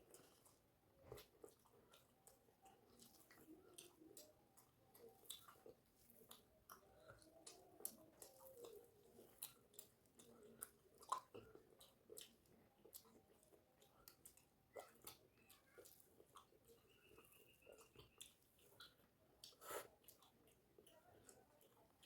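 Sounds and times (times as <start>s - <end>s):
person chewing with wet mouth clicks: 0.0s - 22.0s.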